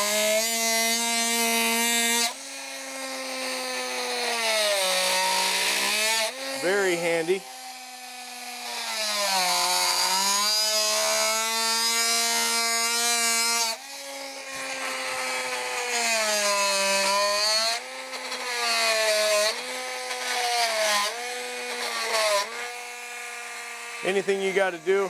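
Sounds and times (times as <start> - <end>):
oscillating tool cutting wood: 0.0 - 25.0.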